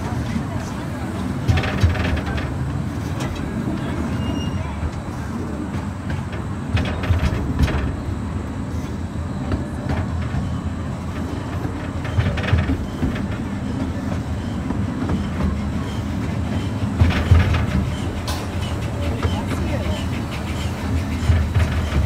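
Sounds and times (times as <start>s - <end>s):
train wheels rumbling: 0.0s - 22.0s
wheels clacking over rails: 0.0s - 22.0s.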